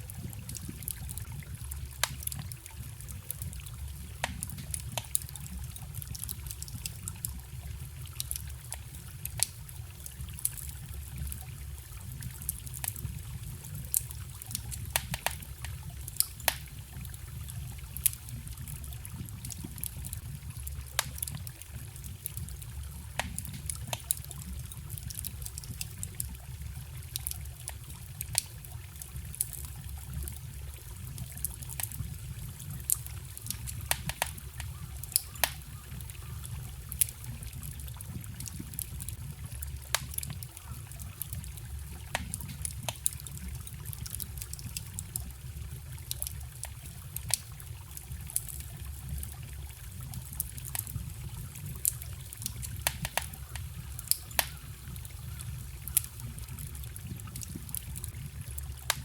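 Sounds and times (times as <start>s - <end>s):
campfire crackling: 0.0s - 59.0s
forest stream running: 0.0s - 59.0s.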